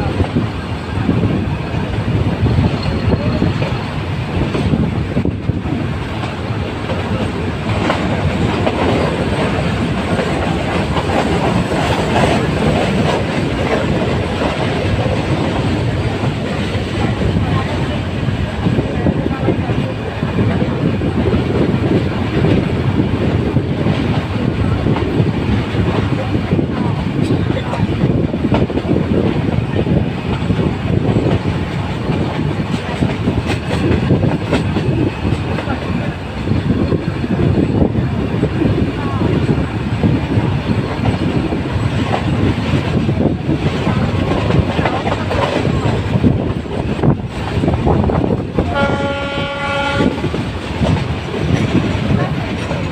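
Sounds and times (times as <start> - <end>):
train rumbling: 0.0 - 52.9.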